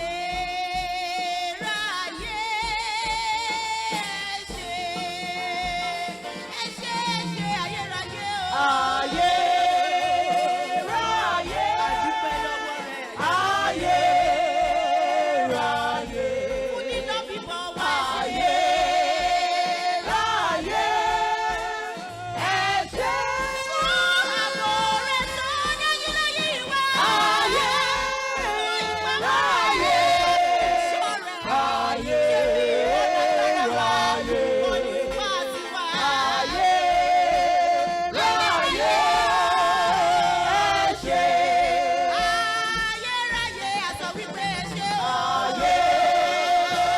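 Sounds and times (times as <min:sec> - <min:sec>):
gospel voices singing: 0:00.0 - 0:46.9
instrumental backing: 0:00.0 - 0:46.9.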